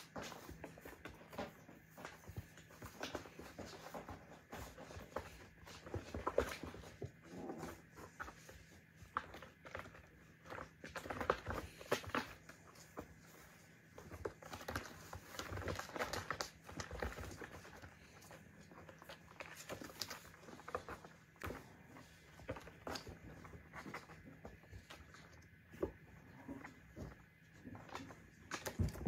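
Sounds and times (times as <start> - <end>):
scuffs and knocks against toy: 0.0 - 29.0
soft patter of paws: 0.0 - 29.0.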